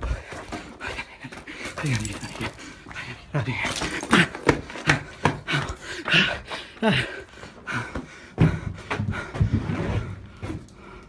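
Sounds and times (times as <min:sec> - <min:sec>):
heavy ragged panting: 0:00.0 - 0:11.0.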